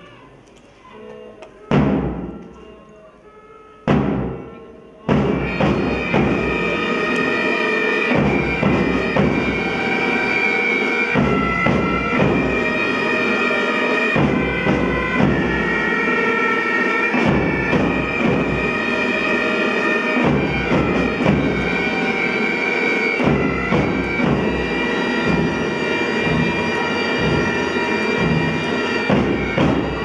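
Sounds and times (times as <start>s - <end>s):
drums beating: 1.5s - 2.7s, 3.8s - 30.0s
bagpipes playing: 5.1s - 30.0s.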